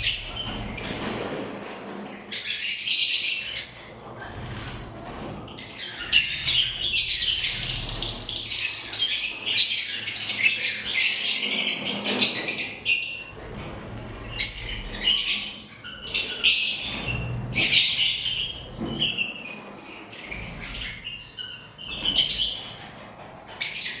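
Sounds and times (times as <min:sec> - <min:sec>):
lovebirds chirping and squawking: 0:00.0 - 0:24.0.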